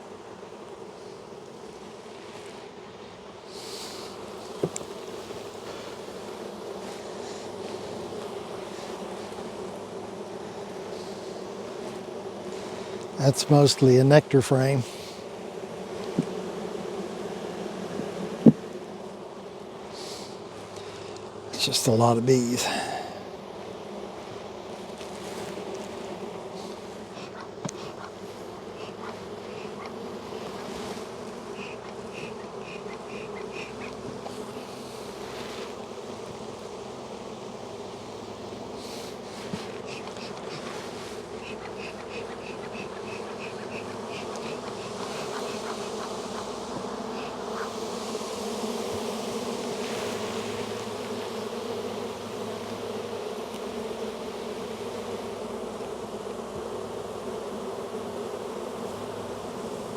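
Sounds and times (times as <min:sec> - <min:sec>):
honey bees buzzing: 0:00.0 - 0:59.9.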